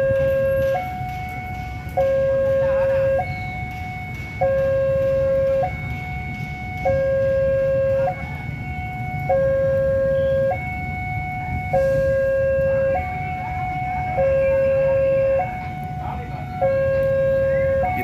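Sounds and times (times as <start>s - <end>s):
level crossing two-tone alarm: 0.0s - 18.0s.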